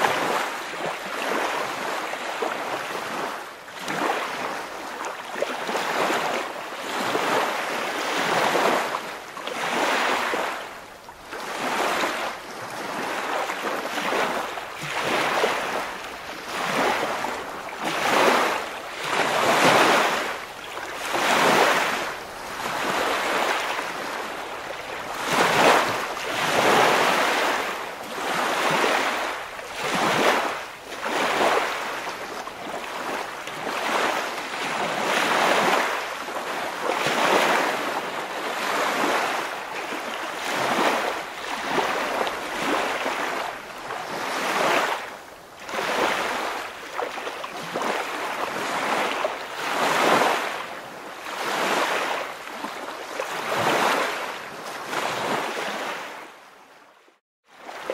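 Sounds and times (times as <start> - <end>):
waves washing in: 0.0 - 56.4.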